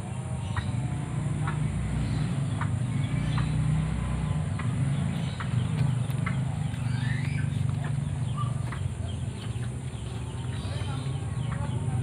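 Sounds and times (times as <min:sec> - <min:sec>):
loud low rumble: 0:00.9 - 0:12.0.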